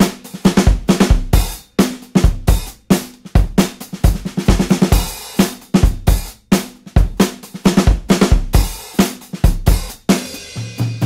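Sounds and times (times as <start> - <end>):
rock drum beat: 0.0 - 11.0.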